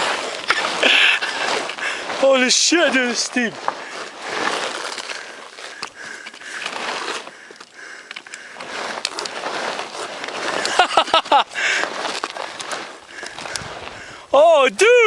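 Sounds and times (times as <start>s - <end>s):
footsteps sliding on dirt: 0.0s - 14.5s.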